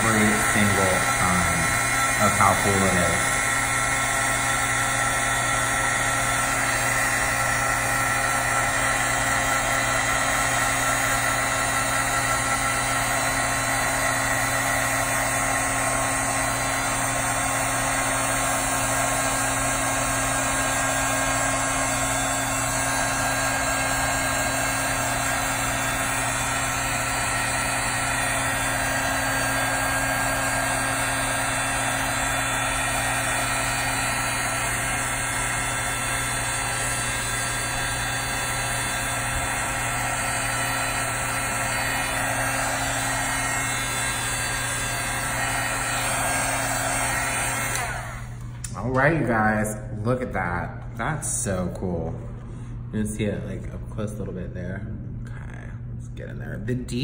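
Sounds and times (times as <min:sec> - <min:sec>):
heat gun whirring: 0:00.0 - 0:49.0.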